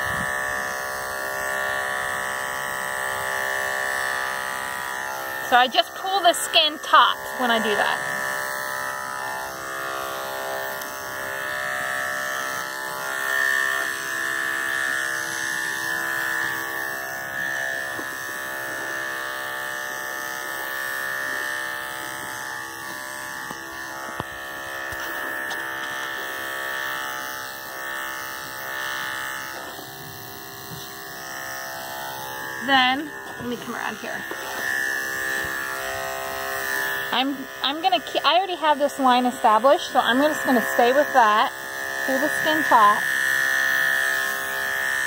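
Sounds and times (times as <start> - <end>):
electric clippers buzzing: 0.0 - 45.0.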